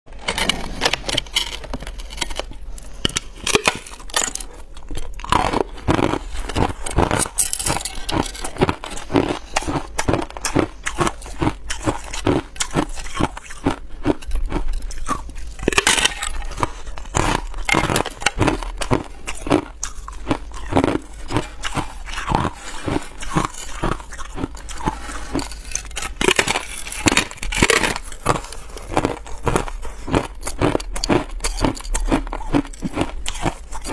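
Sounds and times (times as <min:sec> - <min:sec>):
ice crunching being chewed: 0:00.1 - 0:33.9.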